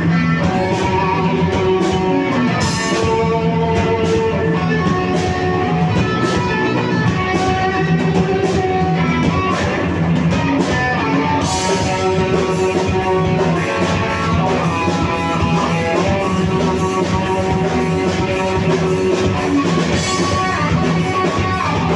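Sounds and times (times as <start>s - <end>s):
drum kit playing: 0.0s - 21.9s
electric guitars strumming: 0.0s - 21.9s.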